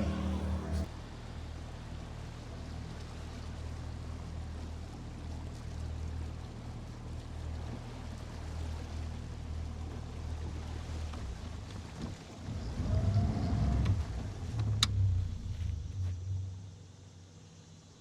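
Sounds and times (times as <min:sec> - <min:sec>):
water noise: 0:00.0 - 0:17.2
boat motor droning: 0:00.0 - 0:18.0.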